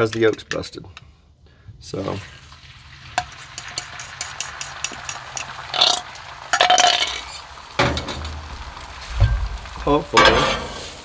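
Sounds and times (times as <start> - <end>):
eggs sizzling on a griddle: 2.0 - 11.0.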